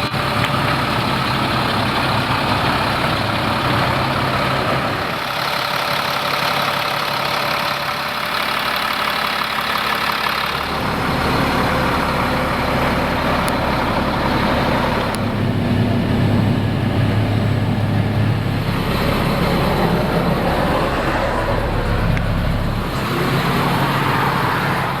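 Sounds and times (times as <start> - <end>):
truck diesel engine running: 0.0 - 25.0.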